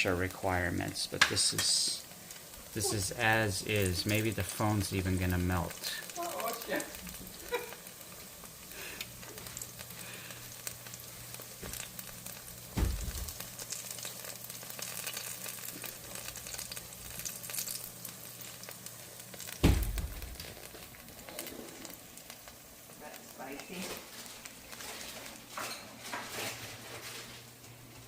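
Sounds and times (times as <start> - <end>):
rolls sizzling in hot oil: 0.0 - 28.0.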